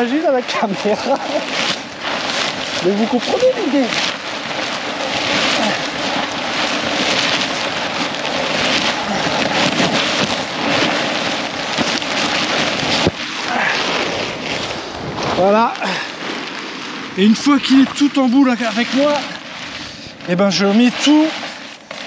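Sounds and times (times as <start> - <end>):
nylon sail rustling and crackling: 0.0 - 22.0.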